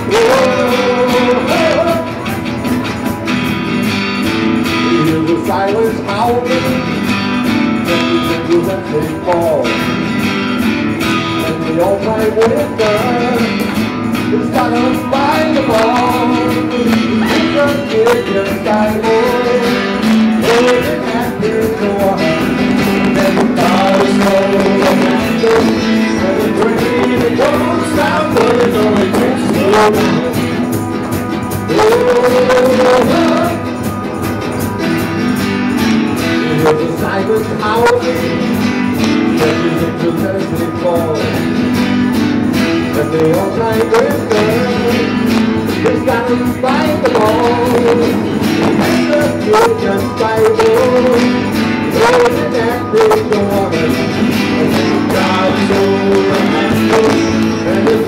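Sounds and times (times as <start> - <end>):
live rock band with guitars: 0.0 - 58.0.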